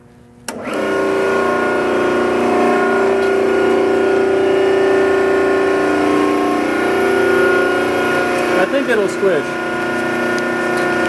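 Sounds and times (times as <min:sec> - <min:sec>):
hydraulic pump motor humming: 0:00.4 - 0:11.0.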